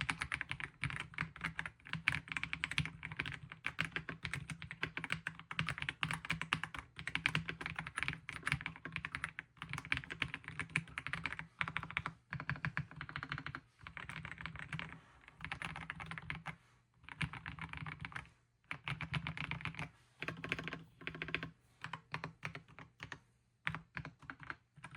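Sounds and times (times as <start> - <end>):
mechanical keyboard typing: 0.0 - 24.9.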